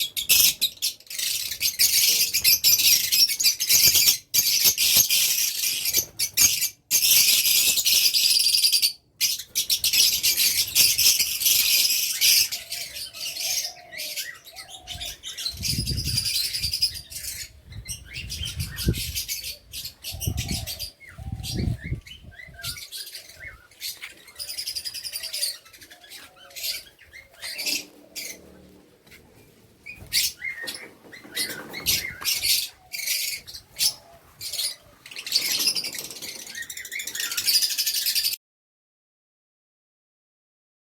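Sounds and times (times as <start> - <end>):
birds chirping and twittering: 0.0 - 38.4.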